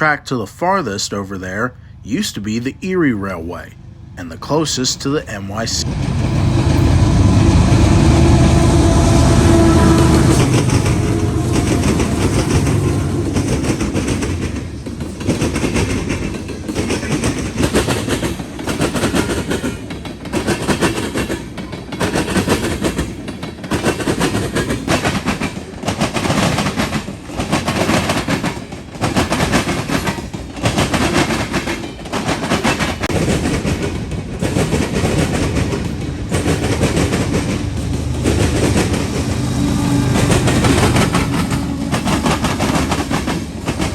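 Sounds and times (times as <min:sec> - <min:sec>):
diesel locomotive engine: 0:00.0 - 0:43.9
freight car wheels clattering: 0:08.1 - 0:43.9.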